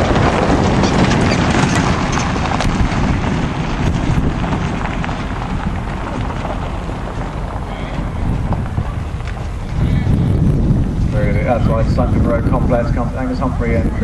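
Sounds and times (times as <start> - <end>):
hooves galloping on turf: 0.0 - 14.0
low rumble: 0.0 - 14.0.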